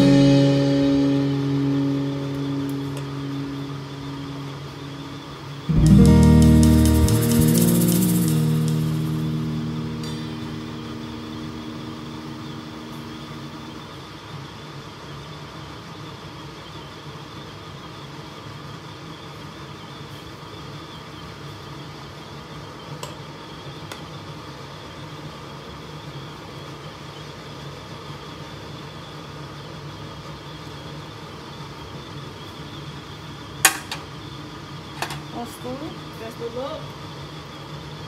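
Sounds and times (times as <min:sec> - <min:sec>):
kitchen fan hum: 0:00.0 - 0:17.4, 0:20.4 - 0:38.0.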